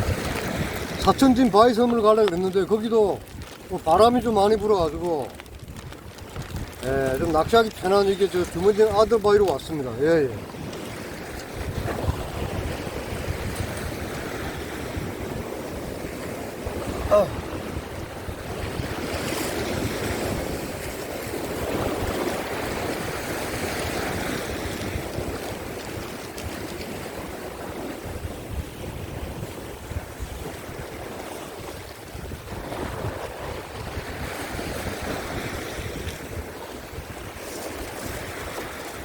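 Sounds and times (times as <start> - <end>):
sea surf washing against rocks: 0.0 - 39.0
wind rumbling on microphone: 0.0 - 39.0.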